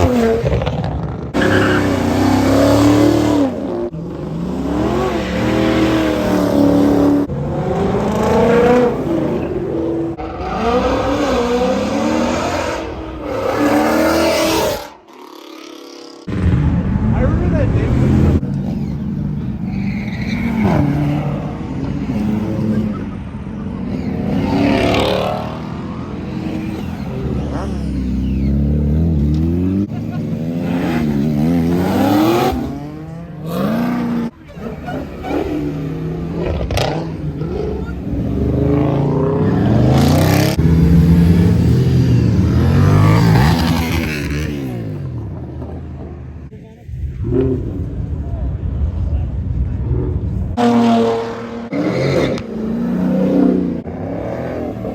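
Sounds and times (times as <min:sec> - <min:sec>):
cars revving and accelerating past: 0:00.0 - 0:54.9.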